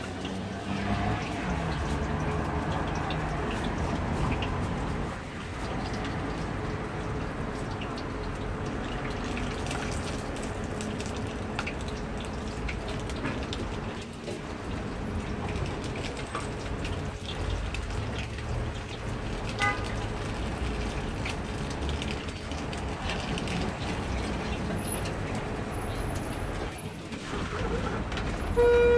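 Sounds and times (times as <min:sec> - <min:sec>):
dough sizzling in hot oil: 0:00.0 - 0:28.9.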